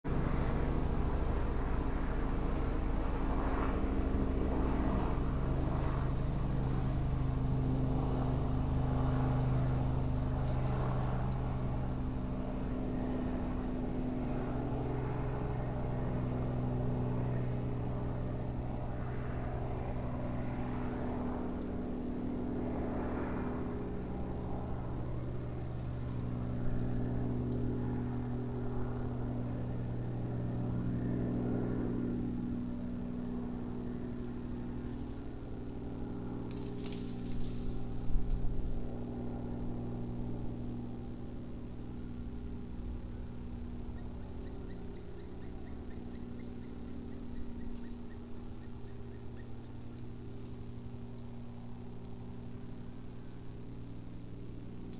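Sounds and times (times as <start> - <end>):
airplane engine drone: 0.0 - 54.9.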